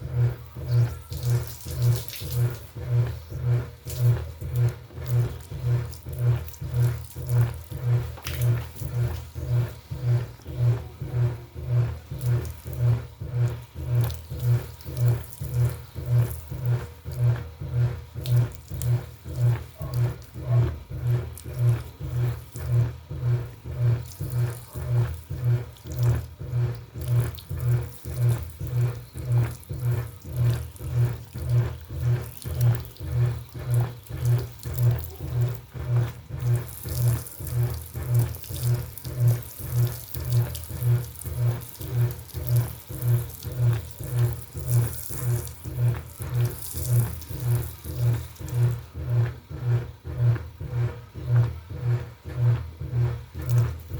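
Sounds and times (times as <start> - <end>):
washing machine humming: 0.0 - 53.9.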